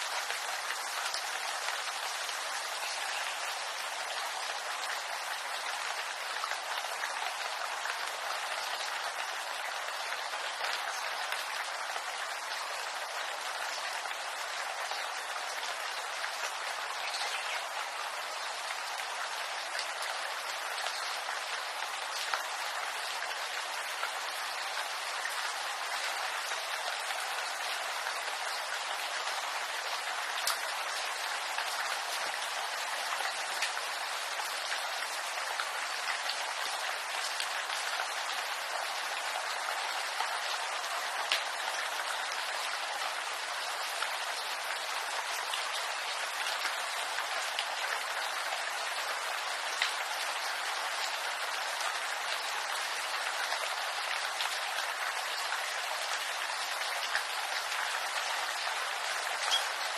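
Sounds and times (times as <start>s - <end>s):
rain falling on bamboo: 0.0s - 59.9s.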